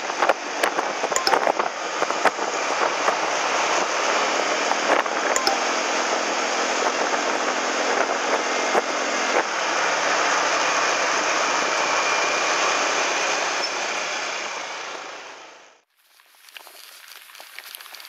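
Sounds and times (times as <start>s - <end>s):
wind and road noise: 0.0s - 15.7s.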